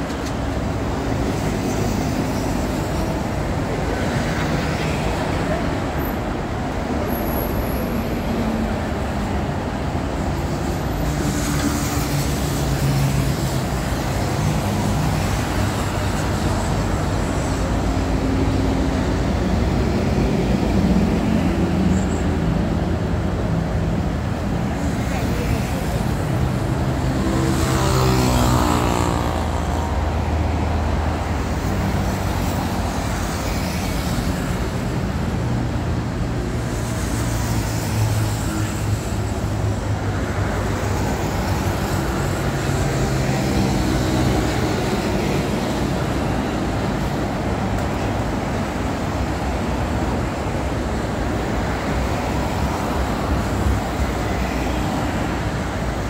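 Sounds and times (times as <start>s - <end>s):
expressway traffic: 0.0s - 56.0s.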